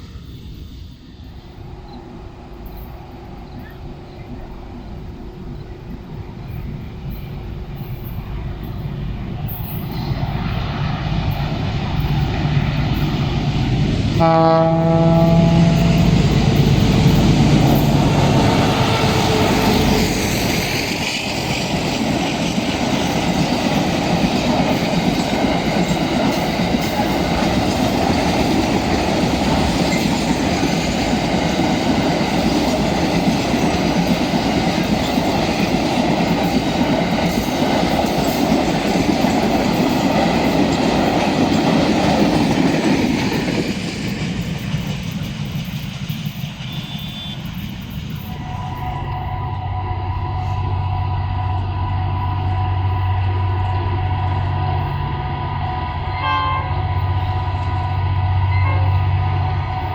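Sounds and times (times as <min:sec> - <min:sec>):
train wheels clattering on rails: 0:00.0 - 0:49.0
train engine tone: 0:00.0 - 0:59.9.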